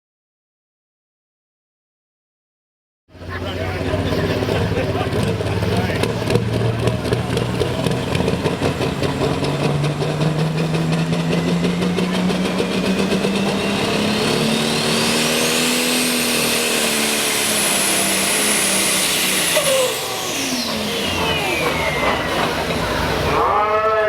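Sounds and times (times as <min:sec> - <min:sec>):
diesel tractor engine under load: 0:03.1 - 0:24.0
high turbo whine: 0:03.1 - 0:24.0.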